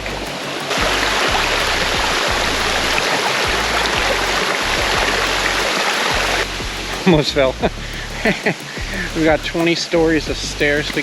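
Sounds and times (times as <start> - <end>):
low rumble: 0.0 - 11.0
water rushing: 0.0 - 11.0.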